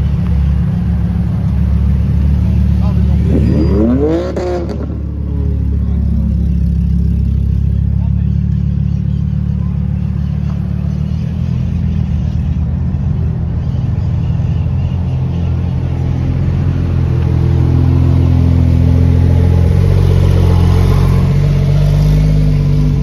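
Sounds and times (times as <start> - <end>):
sports car engines idling: 0.0 - 23.0.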